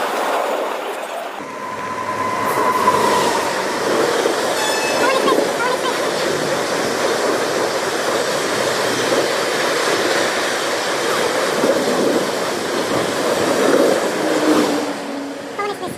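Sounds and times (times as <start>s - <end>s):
train rushing past: 1.4s - 15.9s.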